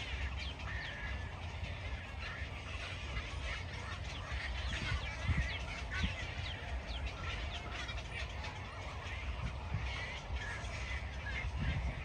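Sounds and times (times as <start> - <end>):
steady low rumble: 0.0 - 12.0
waterbirds calling: 0.0 - 12.0.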